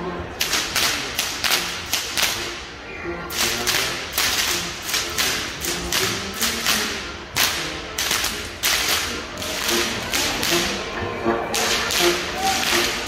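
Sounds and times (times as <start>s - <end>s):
whip cracks with echo: 0.4s - 2.7s, 3.3s - 10.8s, 11.6s - 13.0s.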